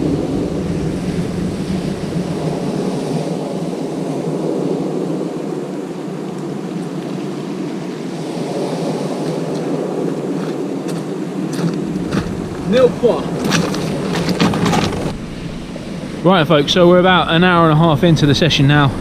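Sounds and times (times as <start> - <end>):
waves breaking on beach: 0.0 - 19.0
wind on microphone: 0.0 - 19.0.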